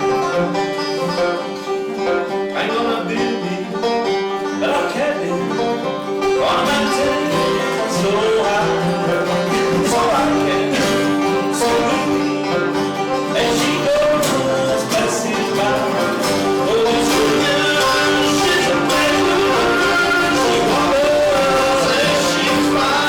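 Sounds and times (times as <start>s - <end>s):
acoustic guitar: 0.0s - 23.0s
banjo: 0.0s - 23.0s.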